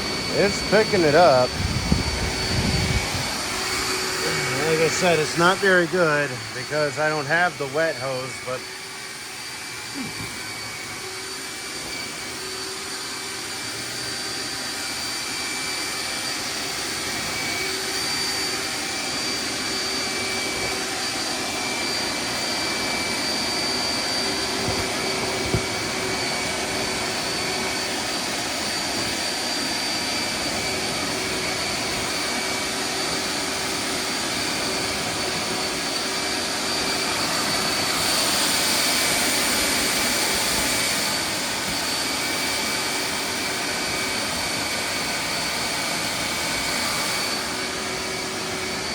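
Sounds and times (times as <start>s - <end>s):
wet dry vacuum motor whining: 0.0s - 48.9s.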